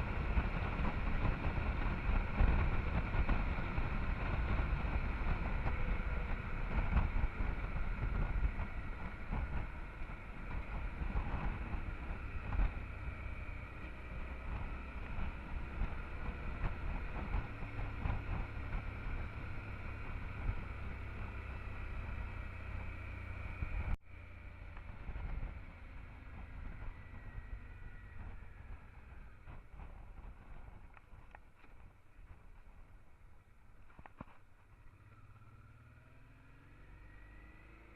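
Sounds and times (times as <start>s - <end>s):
motorcycle engine running: 0.0s - 37.9s
wind and road noise: 0.0s - 37.9s.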